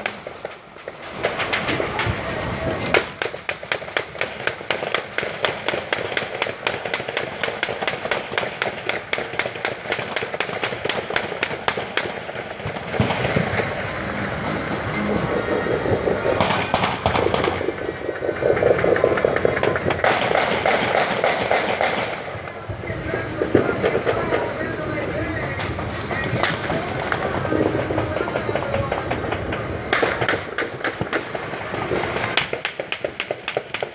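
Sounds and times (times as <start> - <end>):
firecrackers popping: 0.0 - 33.9
fireworks crackling: 0.0 - 33.9.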